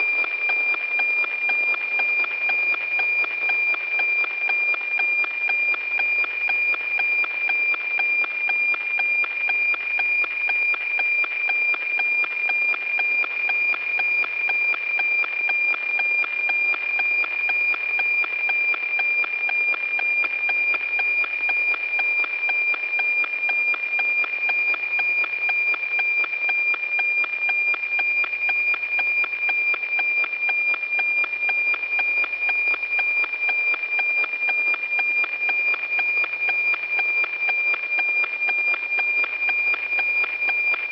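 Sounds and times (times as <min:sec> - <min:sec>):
high radio tone with ticking: 0:00.0 - 0:40.9.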